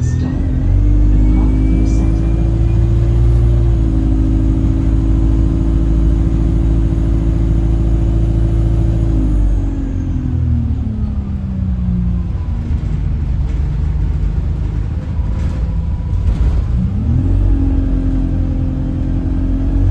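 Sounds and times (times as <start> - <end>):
bus engine drone: 0.0 - 19.9.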